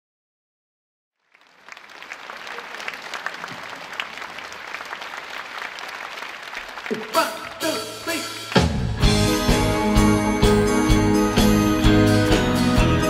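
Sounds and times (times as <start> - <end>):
audience applauding: 1.2 - 13.0.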